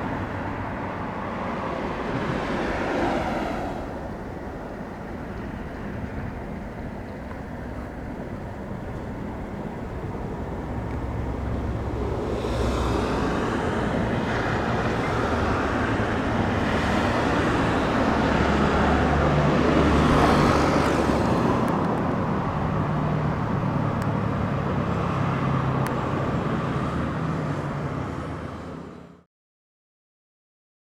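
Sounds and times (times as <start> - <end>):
road traffic: 0.0 - 29.3.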